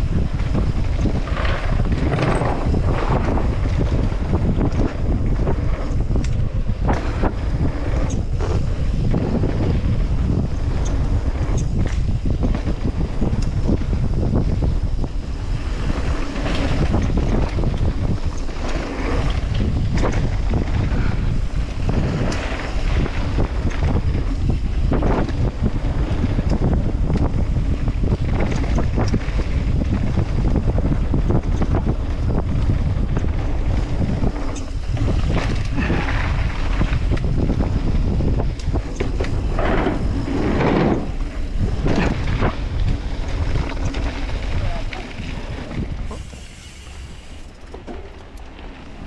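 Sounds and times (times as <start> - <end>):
bike knocks and clatters: 0.0 - 15.1, 21.8 - 49.0
tyres rumbling on dirt: 0.0 - 49.0
wind rushing over microphone: 0.0 - 49.0.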